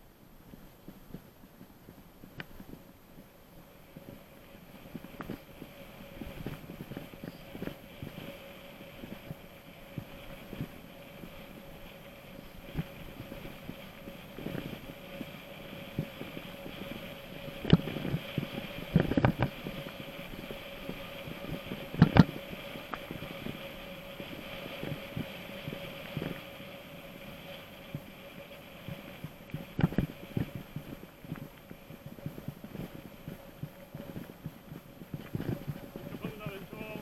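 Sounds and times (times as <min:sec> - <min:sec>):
mountain bike rolling whir: 0:00.0 - 0:37.0.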